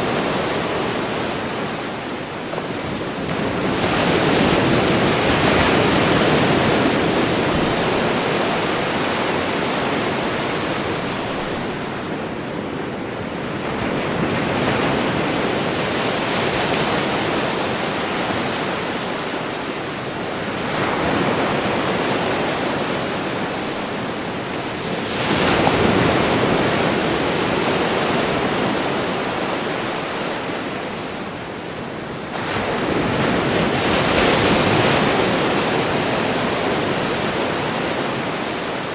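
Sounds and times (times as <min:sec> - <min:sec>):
sea waves washing onto beach: 0:00.0 - 0:38.9.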